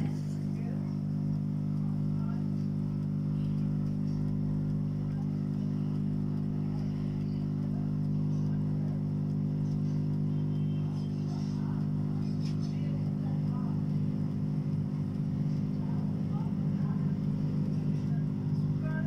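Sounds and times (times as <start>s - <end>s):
hot air blower humming: 0.0s - 19.0s.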